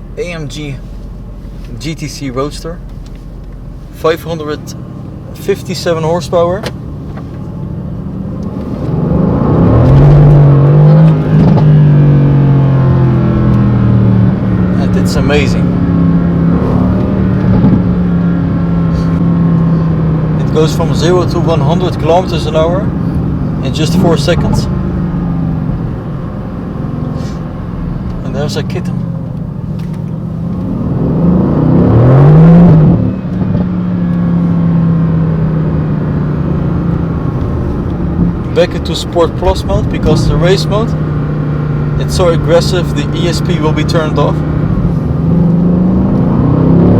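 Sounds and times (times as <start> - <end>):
car engine accelerating hard: 0.0 - 46.9.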